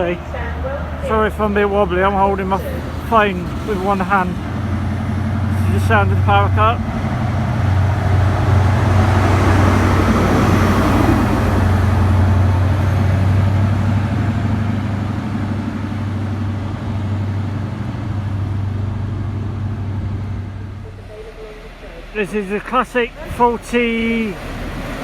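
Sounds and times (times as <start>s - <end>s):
diesel engine drone: 0.0s - 25.0s.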